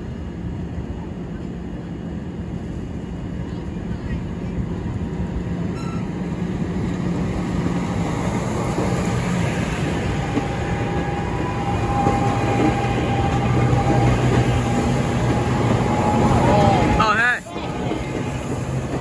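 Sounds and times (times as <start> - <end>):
low train hum: 0.0 - 19.0
train wheels rumbling on rails: 0.0 - 19.0.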